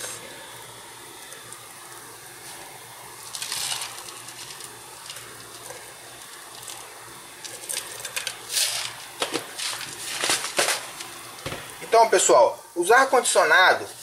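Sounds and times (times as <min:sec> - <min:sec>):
granules pouring into cup: 0:00.0 - 0:11.4
faint steady hiss: 0:00.0 - 0:14.0.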